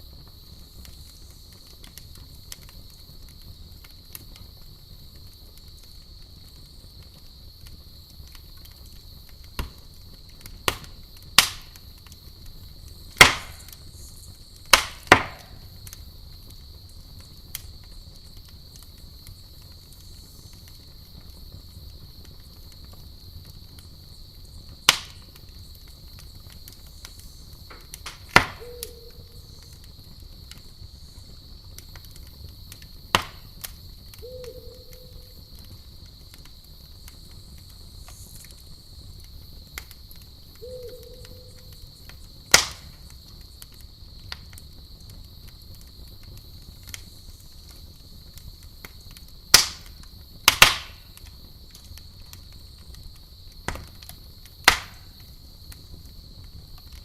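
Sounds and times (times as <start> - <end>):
night insects trilling: 0.0 - 57.0
wood fire crackling and popping: 0.0 - 57.0.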